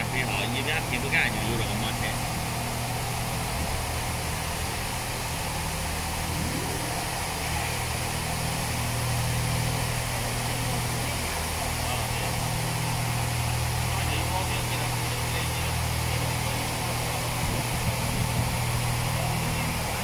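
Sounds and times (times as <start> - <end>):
car wash machine hum: 0.0 - 20.0.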